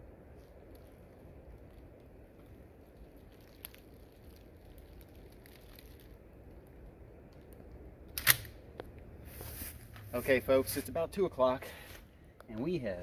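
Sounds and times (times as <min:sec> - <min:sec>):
faint crackles: 0:00.0 - 0:12.8.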